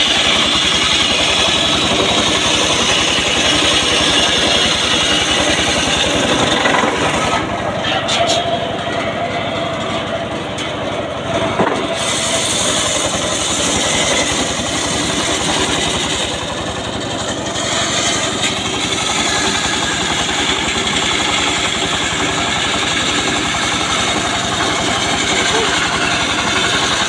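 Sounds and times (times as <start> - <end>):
engine pulsing: 0.0 - 27.0
saw blade cutting through wood: 0.0 - 27.0.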